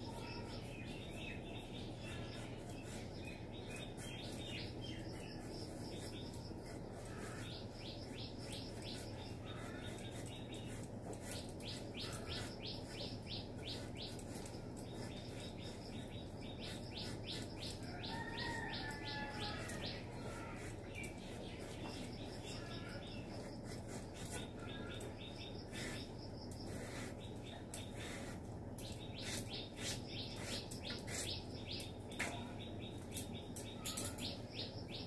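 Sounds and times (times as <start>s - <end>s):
birds chirping in trills: 0.0s - 35.0s
steady low hum: 0.0s - 35.0s.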